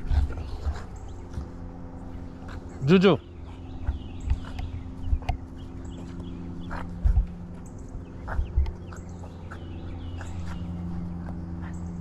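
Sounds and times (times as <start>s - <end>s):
dogs playing: 0.0s - 12.0s
steady low hum: 0.0s - 12.0s.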